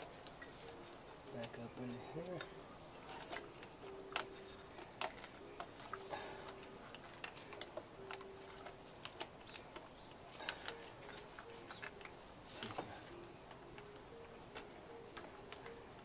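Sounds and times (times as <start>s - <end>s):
plastic and metal parts clicking: 0.0s - 16.0s.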